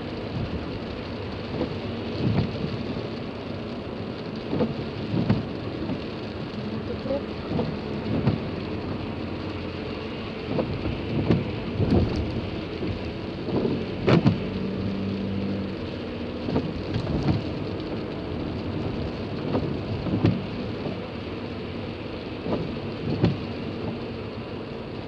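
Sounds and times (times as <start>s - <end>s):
rain on a car body: 0.0s - 25.0s.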